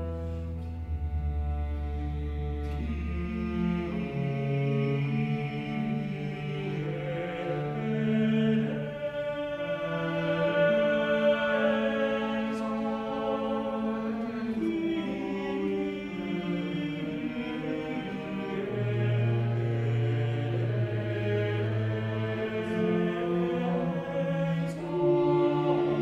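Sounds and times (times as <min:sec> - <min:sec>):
string quartet: 0:00.0 - 0:26.0
choir singing: 0:02.6 - 0:26.0.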